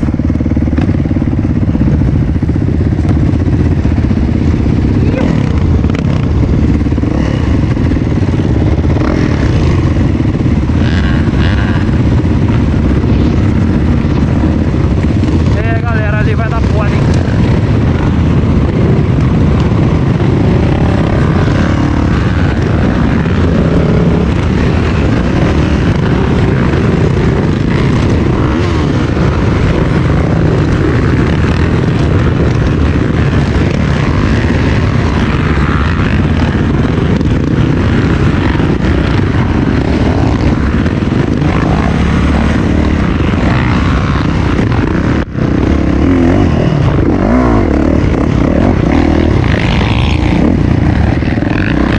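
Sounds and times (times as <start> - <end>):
motorcycle engine drone: 0.0 - 51.9
wind rumble on microphone: 0.0 - 51.9.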